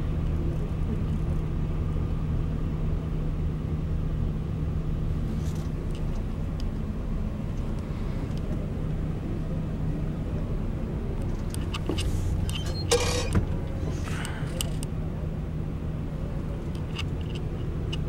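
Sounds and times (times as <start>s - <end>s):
bus diesel engine idling: 0.1s - 17.9s.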